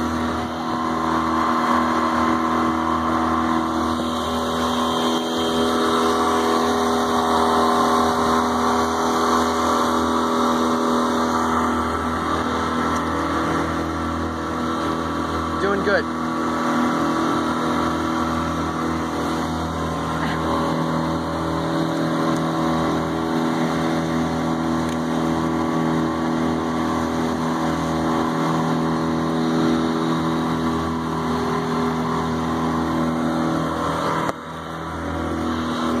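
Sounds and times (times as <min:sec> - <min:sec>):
outboard motor running: 0:00.0 - 0:36.0
water and wind rushing: 0:00.0 - 0:36.0.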